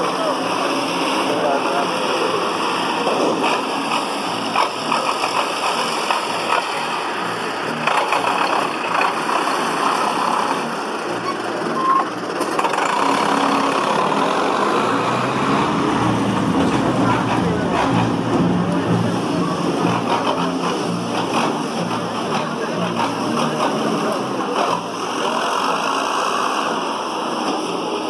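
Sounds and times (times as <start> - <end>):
diesel tractor engine running: 0.0 - 28.0.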